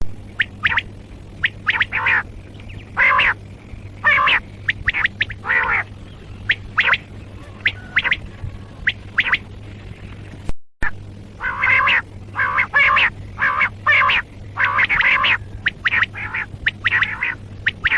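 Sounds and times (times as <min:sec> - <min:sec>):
steady low hum: 0:00.0 - 0:17.9
quail calling: 0:00.4 - 0:03.4, 0:04.0 - 0:09.4, 0:11.4 - 0:17.9.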